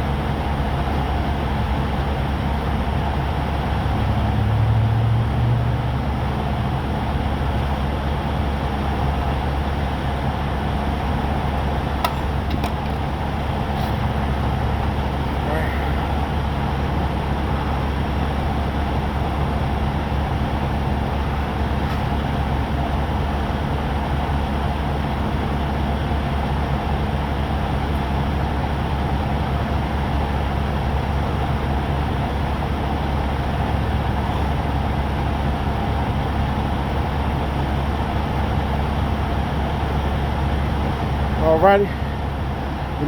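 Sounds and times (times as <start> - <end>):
vehicle engine idling: 0.0 - 43.0.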